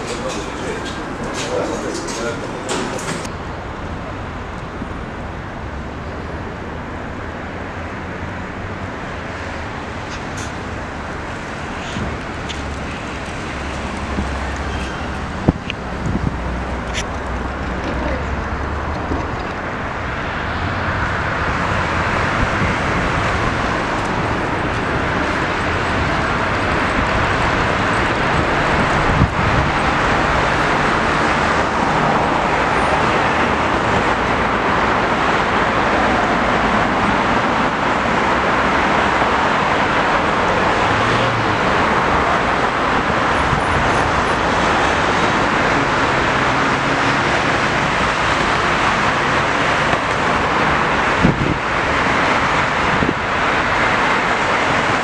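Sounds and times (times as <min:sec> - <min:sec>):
busy city background noise: 0:00.0 - 0:55.0.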